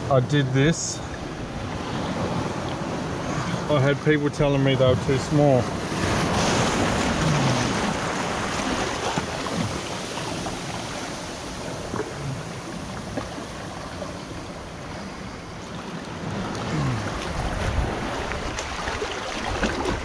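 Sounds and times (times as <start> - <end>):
seawater surging over rocks: 0.0 - 20.0.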